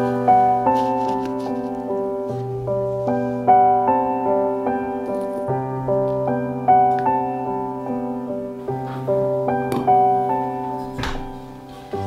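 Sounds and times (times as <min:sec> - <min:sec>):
gentle solo piano: 0:00.0 - 0:12.0.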